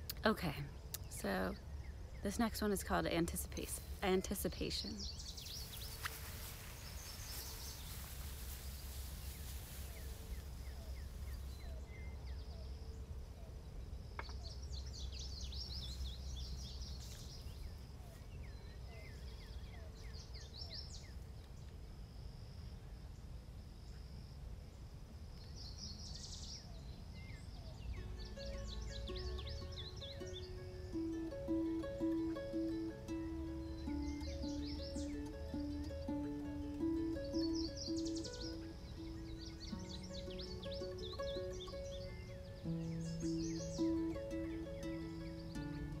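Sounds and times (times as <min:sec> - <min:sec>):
birds chirping: 0:00.0 - 0:21.2, 0:25.4 - 0:46.0
faint insect drone: 0:00.0 - 0:46.0.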